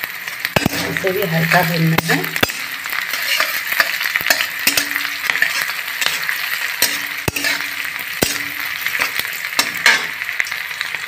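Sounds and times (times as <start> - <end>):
onions sizzling in oil: 0.0 - 11.0
metal spatula scraping pan: 0.4 - 10.2.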